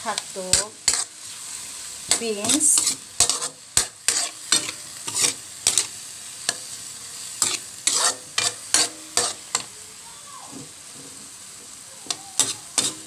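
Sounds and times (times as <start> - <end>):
spatula scraping a wok: 0.0 - 9.8, 10.6 - 13.0
frying oil sizzling: 0.0 - 13.0.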